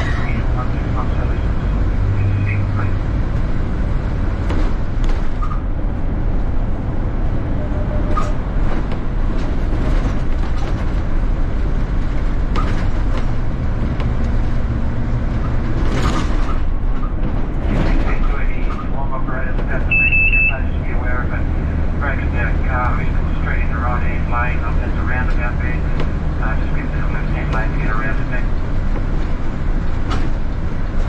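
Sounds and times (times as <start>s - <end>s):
bus engine and road rumble: 0.0s - 31.0s.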